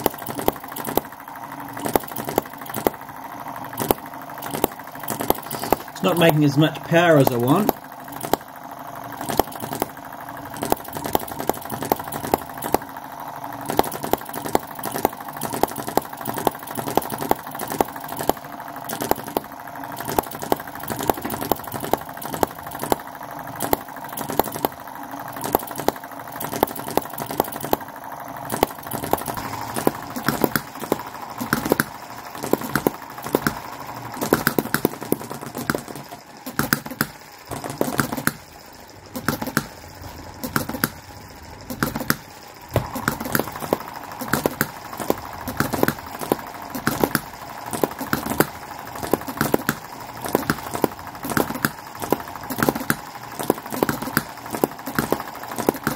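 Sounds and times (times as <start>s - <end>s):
model engine popping: 0.0s - 55.9s.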